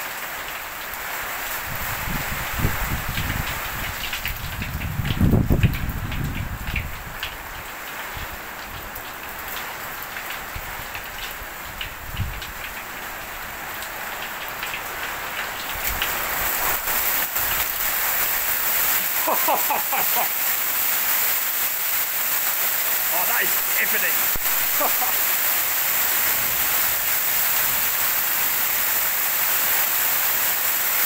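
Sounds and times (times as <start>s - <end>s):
hail and rain on a roof: 0.0s - 31.0s.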